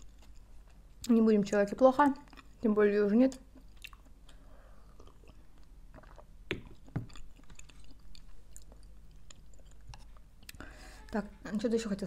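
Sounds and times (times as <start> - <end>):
close-up chewing and mouth sounds: 0.0 - 11.2.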